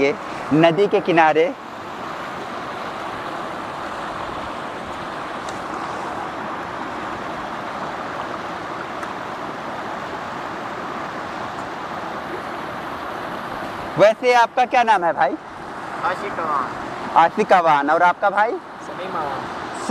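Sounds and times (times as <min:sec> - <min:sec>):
river rushing over stones: 0:00.0 - 0:19.9.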